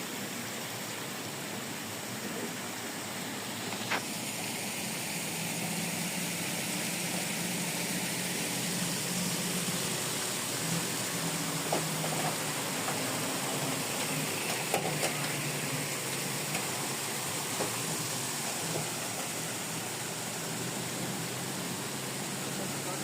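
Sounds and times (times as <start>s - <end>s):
constant hiss: 0.0s - 23.0s
low engine hum: 0.0s - 23.0s.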